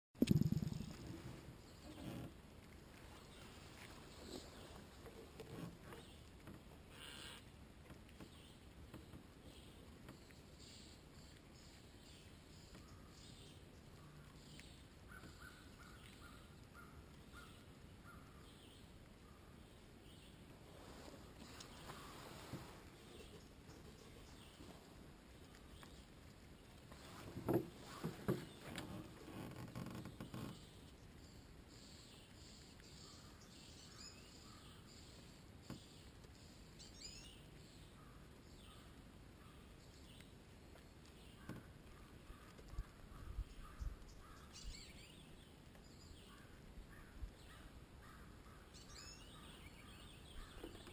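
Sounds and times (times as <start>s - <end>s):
distant birds chirping: 0.2s - 2.4s, 8.2s - 50.9s
chipmunk nibbling and crunching seeds: 0.2s - 50.9s.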